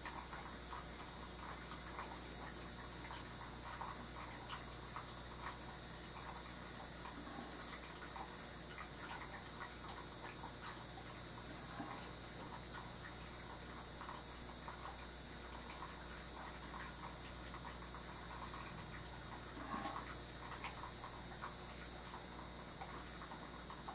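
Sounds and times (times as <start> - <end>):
low hum and hiss: 0.0 - 23.9.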